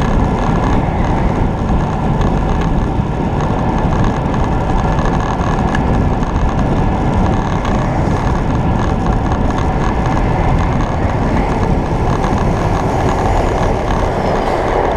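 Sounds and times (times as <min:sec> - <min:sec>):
road noise: 0:00.0 - 0:14.9
wind noise on microphone: 0:00.0 - 0:14.9.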